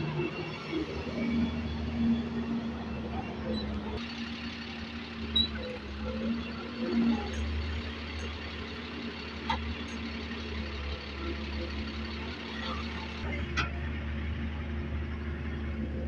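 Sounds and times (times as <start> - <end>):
diesel excavator engine running: 0.0 - 16.0.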